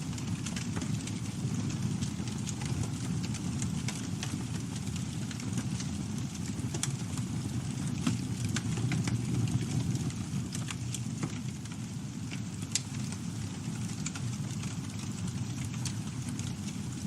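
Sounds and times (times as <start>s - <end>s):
campfire burning: 0.0s - 17.0s.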